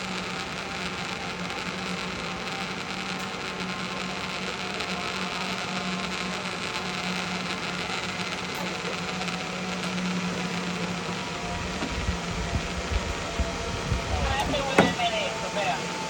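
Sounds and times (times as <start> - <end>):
zipline pulleys whirring on cable: 0.0 - 16.0.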